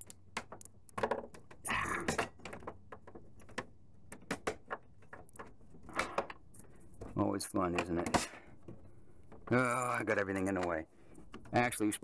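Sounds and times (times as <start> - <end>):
plastic panel clicks and knocks: 0.0 - 11.8.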